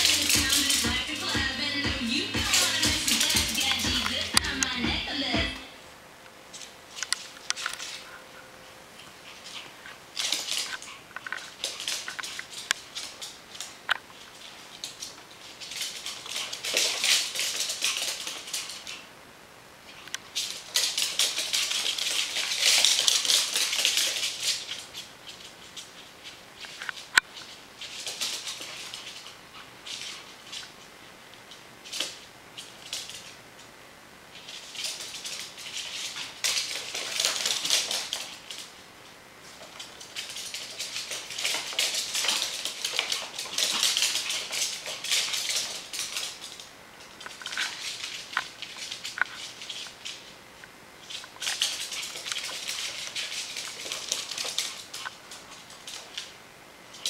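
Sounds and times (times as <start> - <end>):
claws clicking on hardwood floor: 0.0 - 1.1, 6.5 - 8.1, 9.0 - 19.1, 19.9 - 33.7, 34.3 - 38.8, 39.4 - 57.0.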